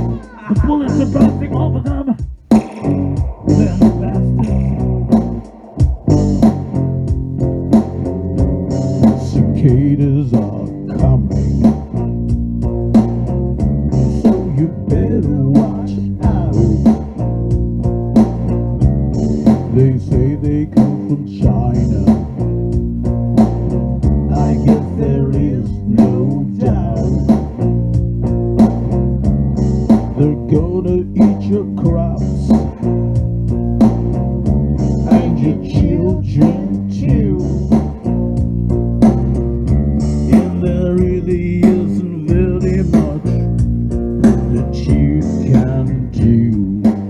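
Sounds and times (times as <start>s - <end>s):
blues guitar and bass: 0.0s - 47.0s
steady drum beat: 0.0s - 47.0s.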